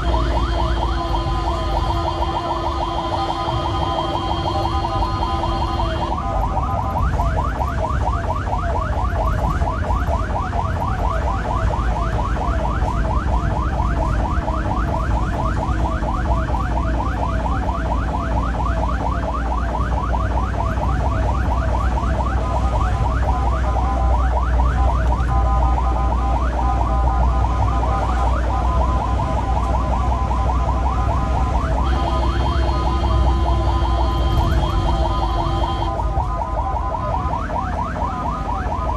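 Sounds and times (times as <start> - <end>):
ambulance siren yelping: 0.0 - 38.9
engine and tyres rumbling: 0.0 - 38.9
steady siren tone: 0.0 - 38.9.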